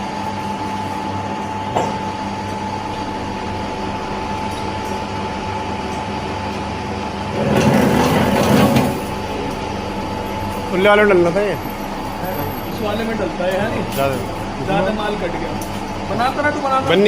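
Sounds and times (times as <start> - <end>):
machine motor hum: 0.0 - 17.0.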